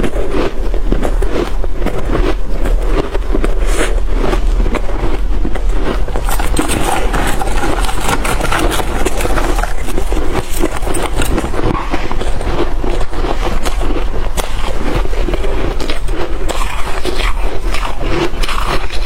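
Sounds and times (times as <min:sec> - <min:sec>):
chewing crunchy ice: 0:00.0 - 0:19.0.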